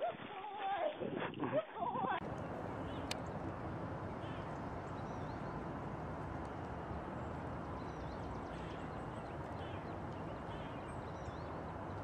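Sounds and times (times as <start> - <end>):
outdoor rumble and hiss: 2.2 - 12.0
small birds chirping: 2.2 - 12.0.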